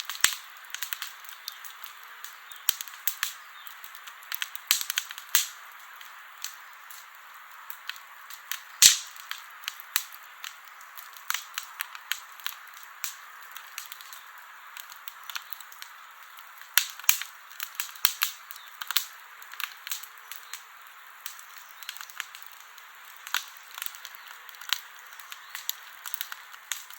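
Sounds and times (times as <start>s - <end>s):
campfire crackling and popping: 0.0s - 26.9s
fire hissing softly: 0.0s - 26.9s.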